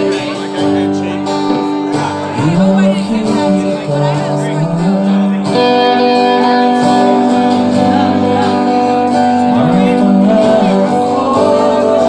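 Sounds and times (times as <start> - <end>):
live rock band playing: 0.0 - 12.0
man singing: 0.0 - 12.0.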